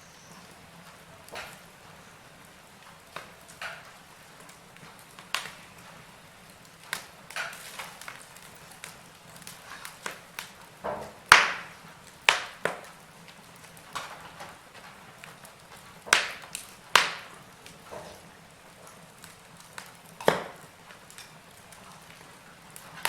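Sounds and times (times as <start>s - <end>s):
faint steady hiss: 0.0s - 23.0s
fire crackling and popping: 0.0s - 23.0s.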